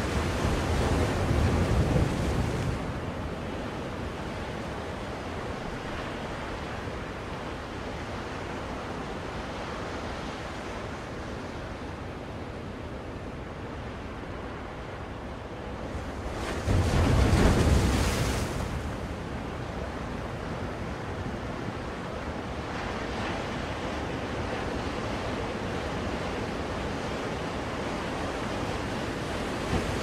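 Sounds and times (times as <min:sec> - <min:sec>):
ocean waves: 0:00.0 - 0:30.0.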